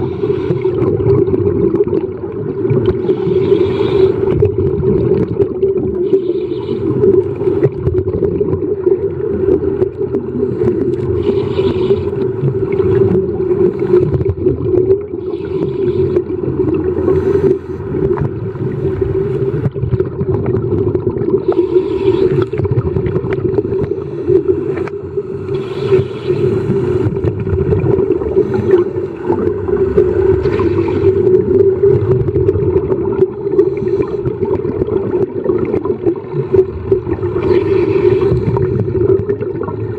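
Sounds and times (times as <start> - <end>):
low underwater drone: 0.0 - 39.9
scuba regulator bubbles: 0.0 - 39.9.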